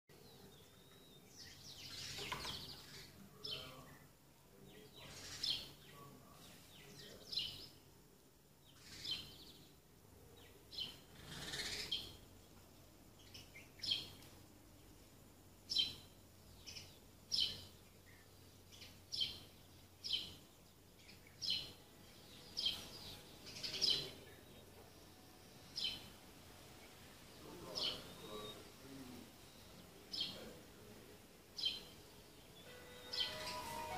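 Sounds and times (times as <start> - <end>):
sparrows chirping: 0.1 - 7.9, 8.5 - 33.9.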